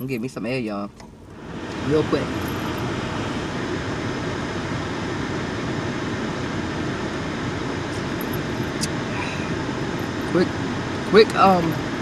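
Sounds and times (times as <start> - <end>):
air-conditioning fan blowing: 0.0 - 12.0.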